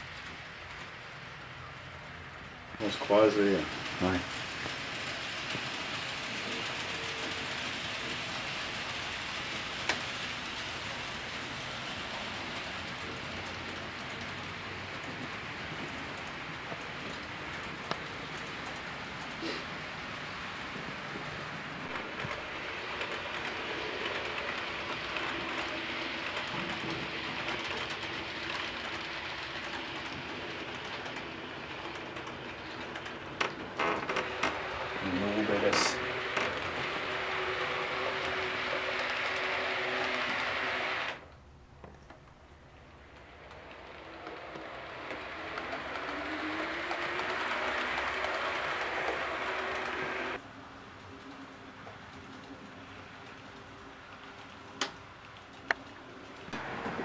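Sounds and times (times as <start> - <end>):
model train wheels rumbling: 0.0 - 57.0.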